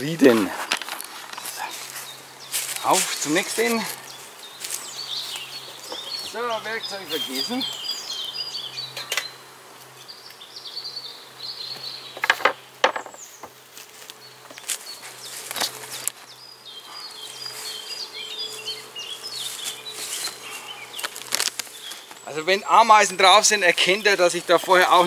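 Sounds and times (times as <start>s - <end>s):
birds singing and chirping: 0.0s - 25.0s
honeybees buzzing: 0.0s - 25.0s.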